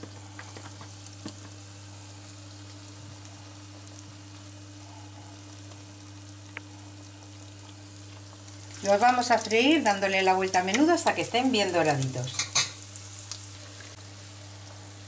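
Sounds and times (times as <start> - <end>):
bread frying in oil: 0.0 - 15.0.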